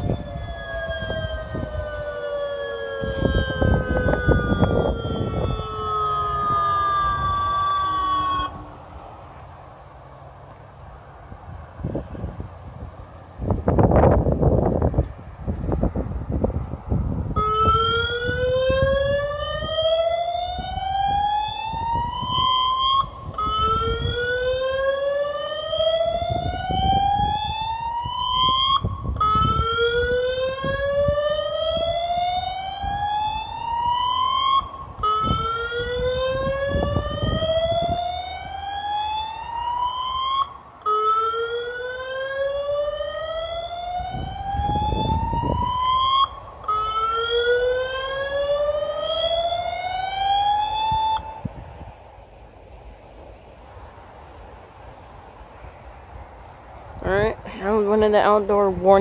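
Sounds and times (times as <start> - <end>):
rising warning siren: 0.0 - 52.3.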